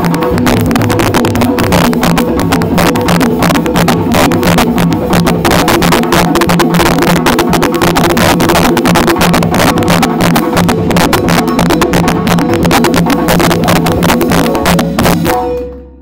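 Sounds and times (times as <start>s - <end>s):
balafon struck with mallets: 0.0s - 16.0s
hand drums: 0.0s - 16.0s.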